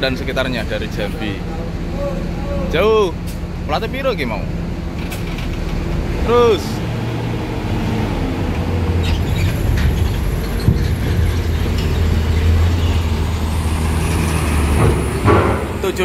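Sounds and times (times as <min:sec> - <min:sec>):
bus engines droning: 0:00.0 - 0:16.0.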